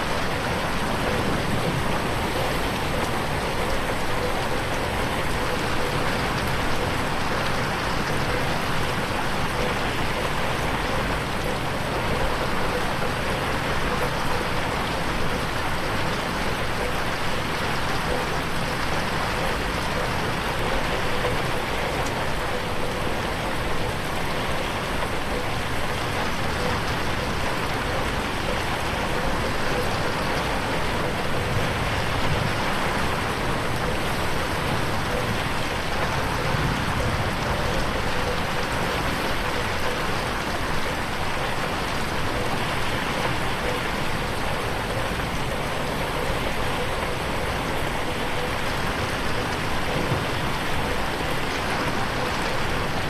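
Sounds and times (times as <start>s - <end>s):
heavy rain on a window: 0.0s - 53.0s.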